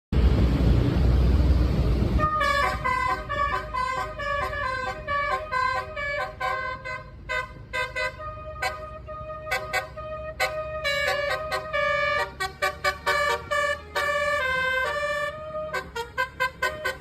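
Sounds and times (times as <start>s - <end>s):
loud vehicle rumble: 0.1s - 17.0s
bus horn playing a tune: 2.2s - 17.0s.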